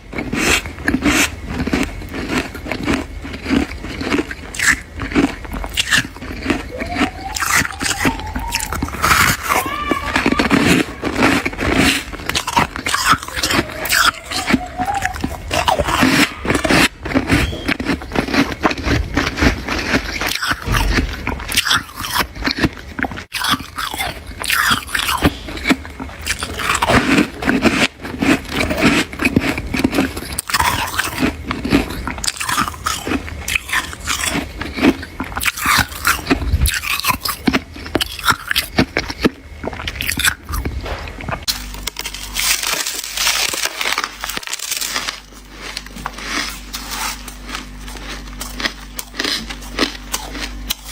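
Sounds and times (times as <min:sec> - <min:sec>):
ice being chewed and crunched: 0:00.0 - 0:50.9.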